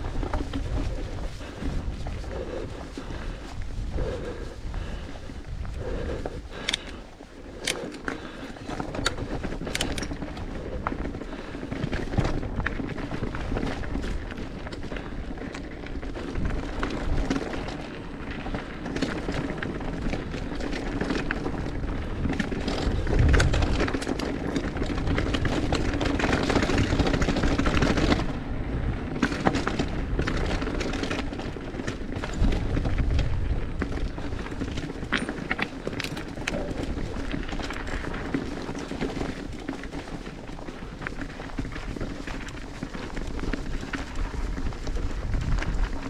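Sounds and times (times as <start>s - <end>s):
bike knocking and rattling: 0.0s - 46.0s
tyres on dirt and rock: 0.0s - 46.0s.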